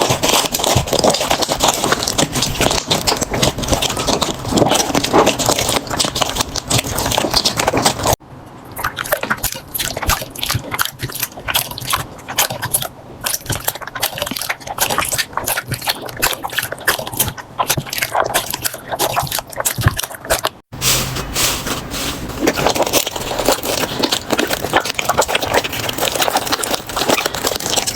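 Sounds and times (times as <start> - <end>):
slime squishing: 0.0 - 27.9.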